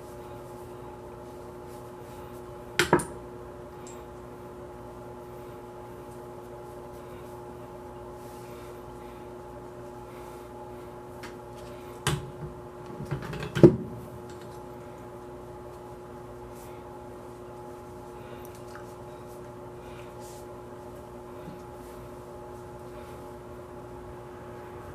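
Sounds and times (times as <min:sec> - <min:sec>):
steady background hum: 0:00.0 - 0:24.9.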